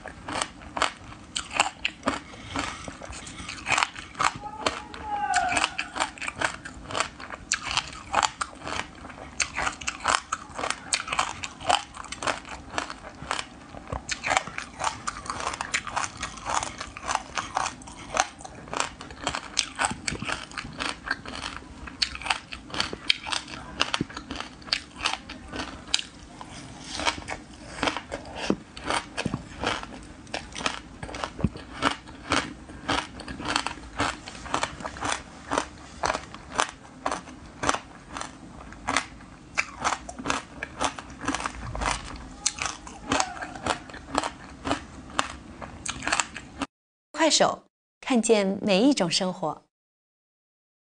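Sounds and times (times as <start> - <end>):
crunchy chewing: 0.0 - 46.7.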